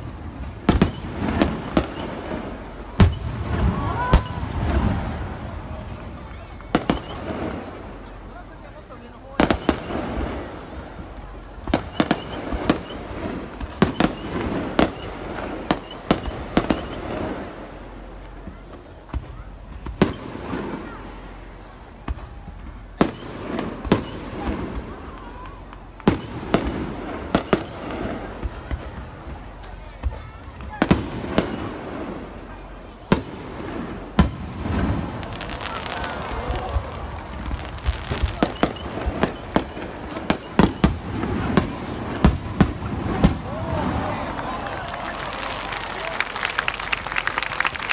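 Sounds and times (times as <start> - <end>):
fireworks bangs: 0.0 - 47.9
stadium crowd hum: 0.0 - 47.9.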